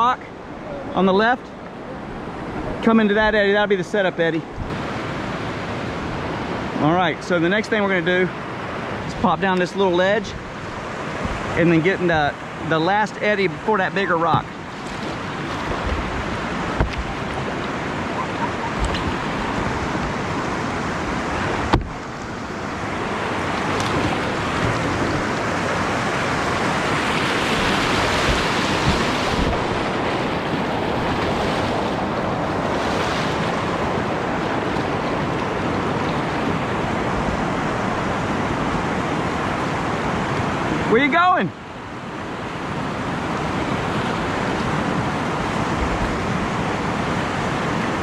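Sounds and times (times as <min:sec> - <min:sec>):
whitewater rapids rushing: 0:01.8 - 0:48.0.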